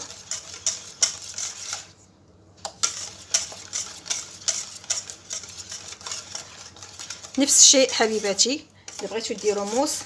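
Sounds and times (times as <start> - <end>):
utensil scraping a saucepan: 0.0 - 2.0, 2.6 - 10.0.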